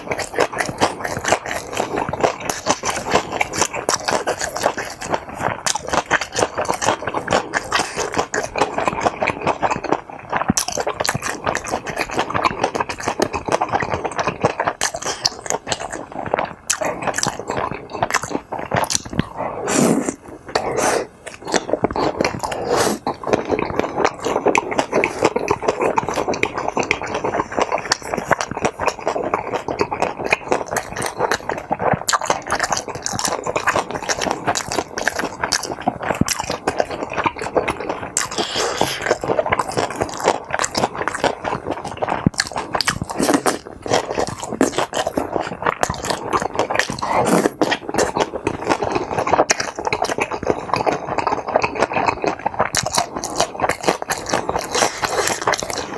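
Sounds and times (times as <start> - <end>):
person chewing with wet mouth sounds: 0.0 - 55.9.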